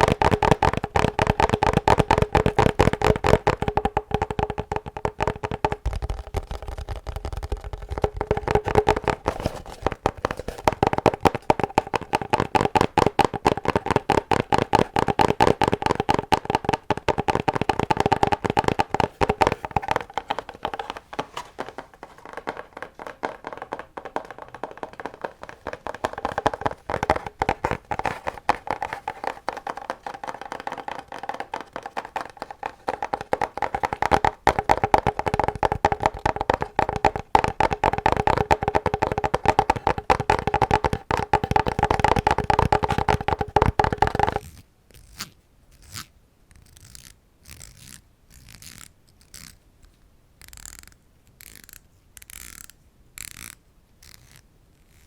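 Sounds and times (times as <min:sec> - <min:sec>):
fast tapping on an object: 0:00.0 - 0:44.5.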